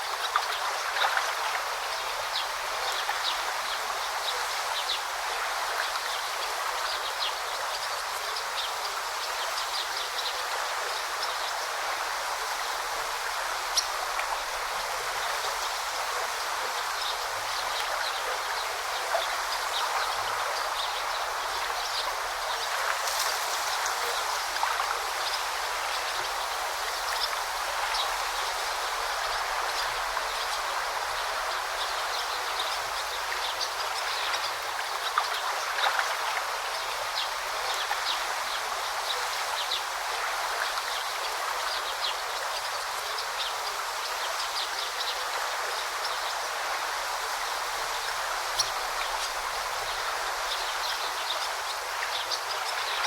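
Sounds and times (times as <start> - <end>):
river babbling: 0.0 - 53.0.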